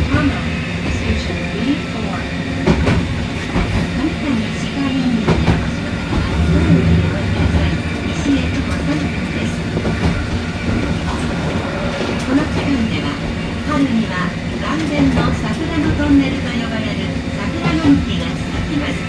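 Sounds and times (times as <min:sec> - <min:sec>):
tram rumbling: 0:00.0 - 0:19.0.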